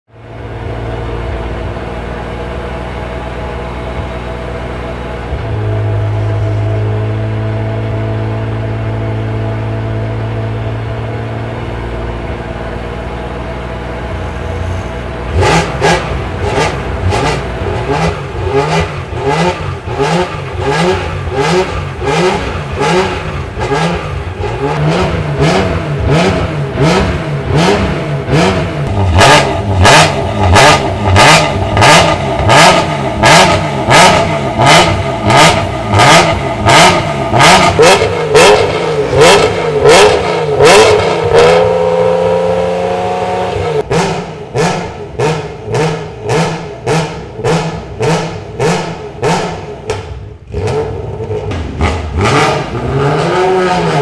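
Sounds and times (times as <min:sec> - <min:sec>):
race car engine revving: 0:00.4 - 0:54.0.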